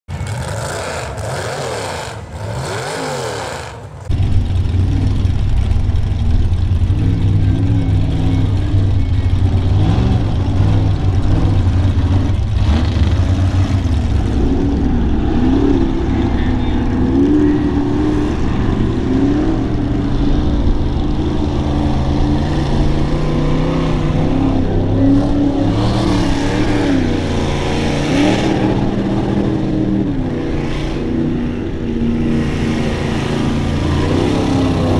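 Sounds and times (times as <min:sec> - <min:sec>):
truck churning through mud: 0:00.1 - 0:05.6, 0:06.4 - 0:34.9
truck engine revving: 0:00.1 - 0:34.9.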